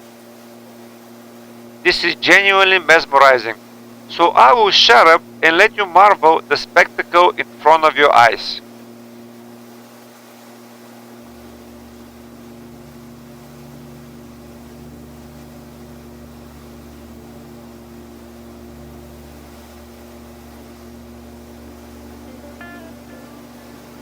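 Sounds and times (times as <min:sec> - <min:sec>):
aircraft engine and airflow drone: 0:00.0 - 0:24.0.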